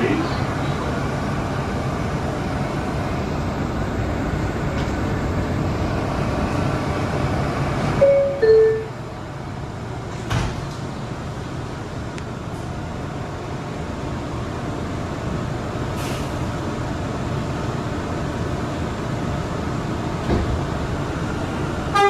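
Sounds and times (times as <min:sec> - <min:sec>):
subway train humming: 0:00.0 - 0:22.0.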